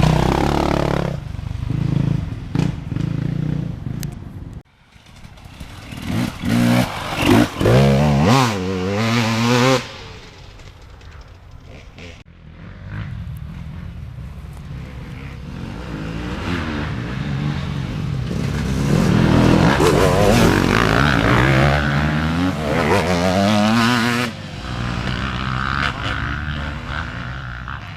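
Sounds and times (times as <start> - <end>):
dirt bike engine revving: 0.0 - 4.0, 4.9 - 14.0, 14.7 - 27.9.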